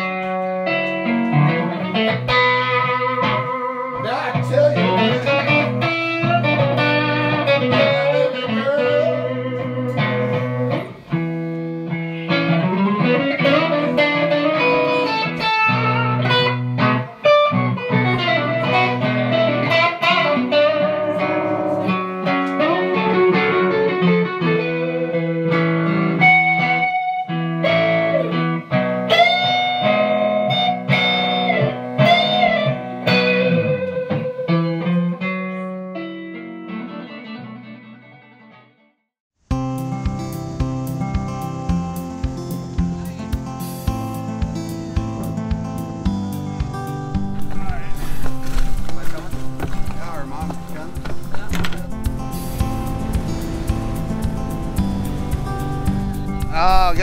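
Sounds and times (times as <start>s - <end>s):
electric guitar melody: 0.0s - 57.0s.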